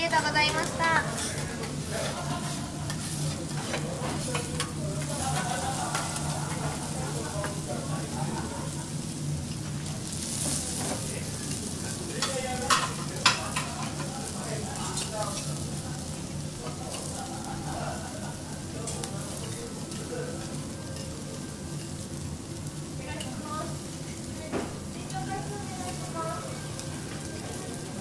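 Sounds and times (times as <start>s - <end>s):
beef sizzling on a griddle: 0.0s - 28.0s.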